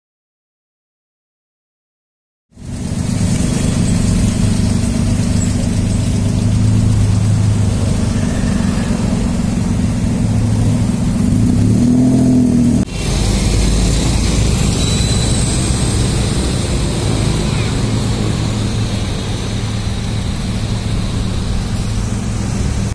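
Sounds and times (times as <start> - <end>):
low traffic rumble: 2.5 - 22.9
vehicle engine idling: 2.6 - 22.9.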